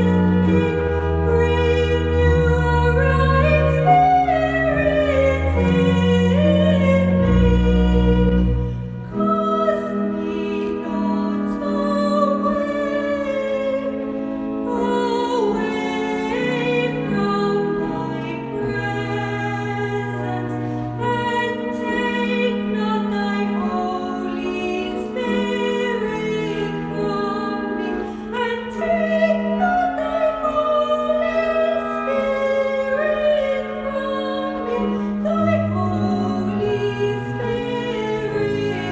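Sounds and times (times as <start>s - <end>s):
hymn singing: 0.0s - 38.9s
organ chords: 0.0s - 38.9s.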